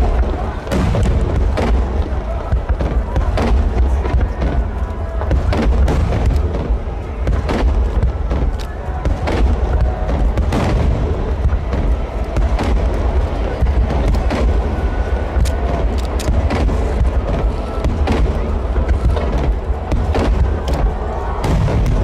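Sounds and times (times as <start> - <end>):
fireworks bangs and crackles: 0.0 - 22.0
heavy rumble: 0.0 - 22.0.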